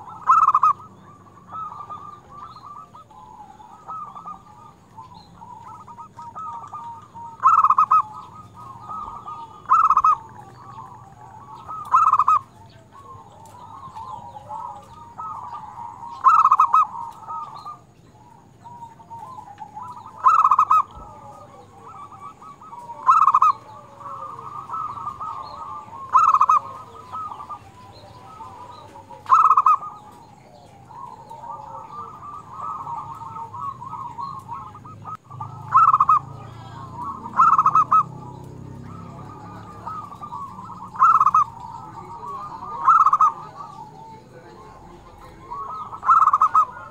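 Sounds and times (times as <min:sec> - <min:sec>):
dove cooing rapidly: 0:00.0 - 0:46.9
soft bird calling: 0:00.0 - 0:46.9.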